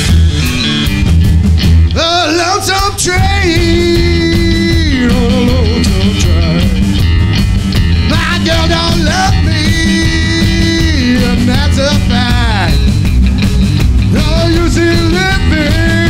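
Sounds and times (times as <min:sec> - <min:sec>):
drums: 0:00.0 - 0:16.0
electric guitar lead: 0:00.0 - 0:16.0
upright bass: 0:00.0 - 0:16.0.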